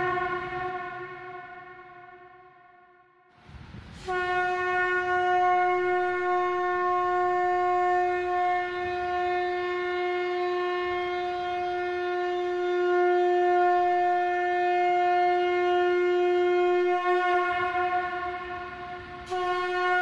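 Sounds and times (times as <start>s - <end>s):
conch shell blown: 0.0s - 20.0s.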